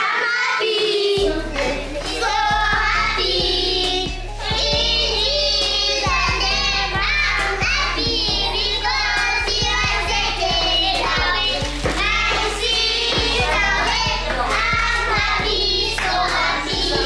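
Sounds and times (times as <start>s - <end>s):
children singing: 0.0s - 17.0s
beat and bass: 1.2s - 17.0s.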